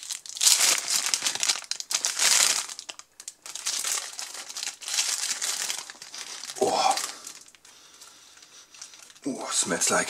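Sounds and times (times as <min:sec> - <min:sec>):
paper wrapper crinkling: 0:00.0 - 0:10.0.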